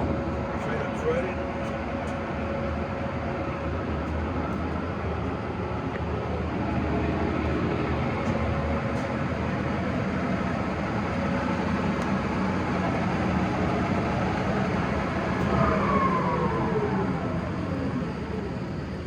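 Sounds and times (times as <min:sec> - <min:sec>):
lathe running with gear whine: 0:00.0 - 0:19.0.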